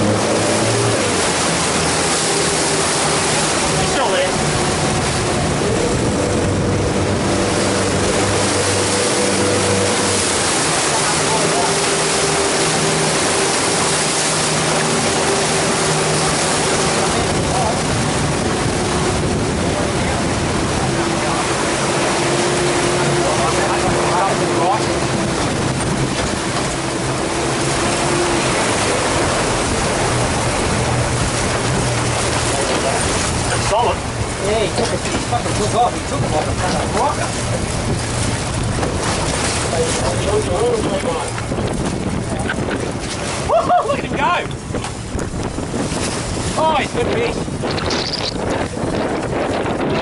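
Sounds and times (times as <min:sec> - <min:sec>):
motorboat engine humming: 0:00.0 - 0:50.0
water splashing along hull: 0:00.0 - 0:50.0.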